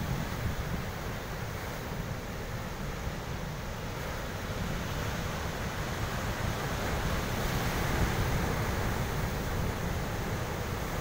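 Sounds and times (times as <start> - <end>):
surf washing over rocks: 0.0 - 11.0
wind rumble on microphone: 0.0 - 11.0.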